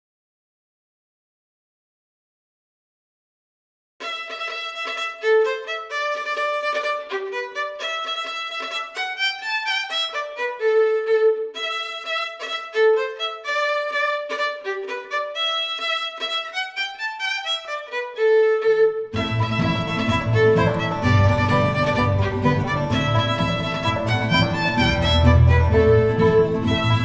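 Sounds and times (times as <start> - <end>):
solo violin melody: 4.0 - 27.0.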